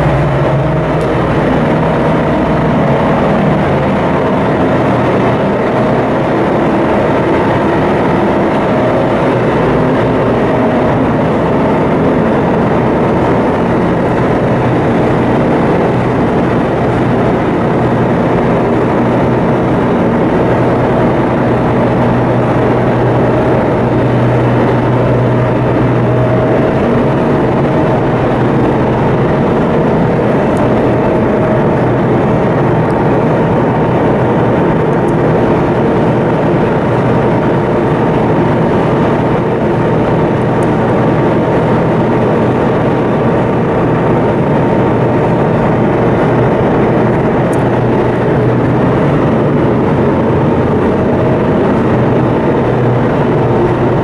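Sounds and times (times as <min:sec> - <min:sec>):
ship engine drone: 0:00.0 - 0:54.0.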